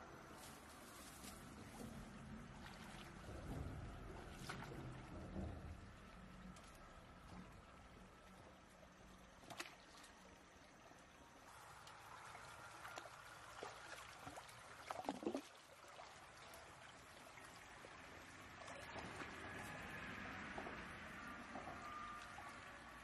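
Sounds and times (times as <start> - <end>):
stream trickling: 0.0 - 23.0.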